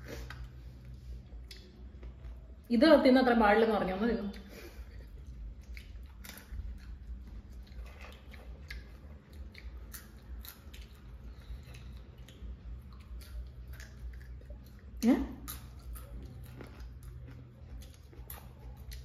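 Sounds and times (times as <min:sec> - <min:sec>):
people chewing crunchy food: 0:00.0 - 0:02.6, 0:04.3 - 0:19.0.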